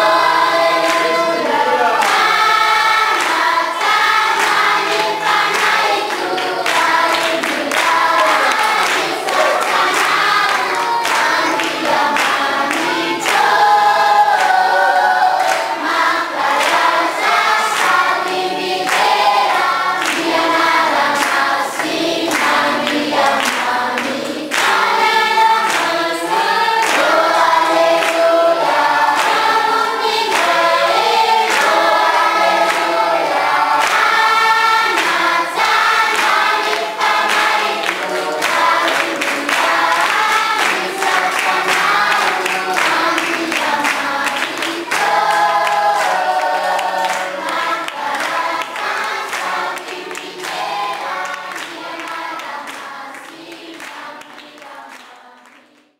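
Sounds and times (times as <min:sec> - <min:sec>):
hand claps: 0:00.0 - 0:14.8, 0:15.4 - 0:55.9
group singing a song: 0:00.0 - 0:55.9.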